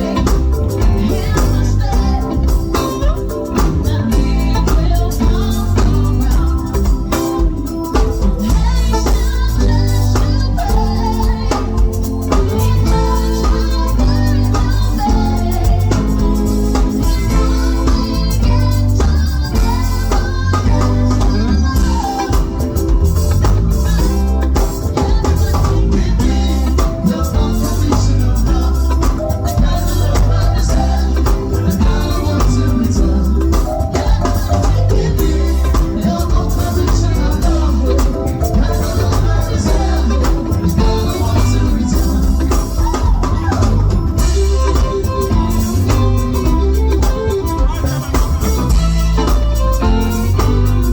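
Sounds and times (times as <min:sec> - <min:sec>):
band music with drums and bass: 0:00.0 - 0:50.9
person singing: 0:00.0 - 0:50.9.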